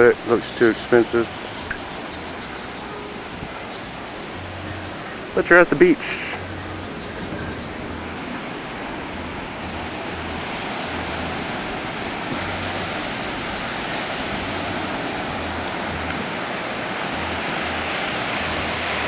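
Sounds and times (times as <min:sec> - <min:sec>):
waves washing onto sandy beach: 0:00.0 - 0:19.0.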